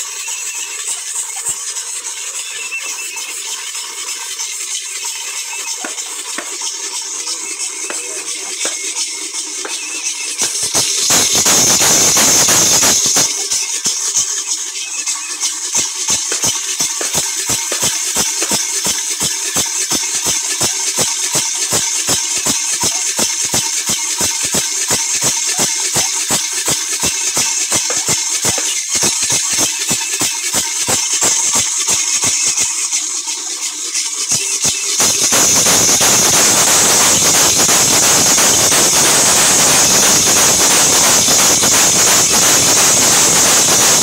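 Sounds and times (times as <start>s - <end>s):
background music with fast beat: 5.6s - 44.0s.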